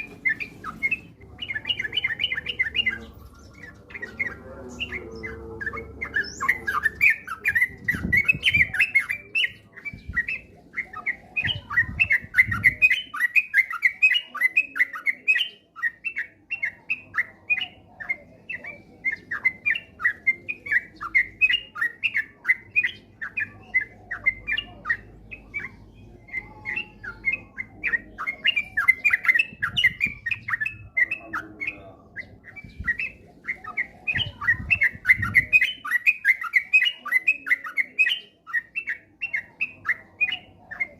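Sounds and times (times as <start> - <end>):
bird singing rapid chirps: 0.0 - 40.9.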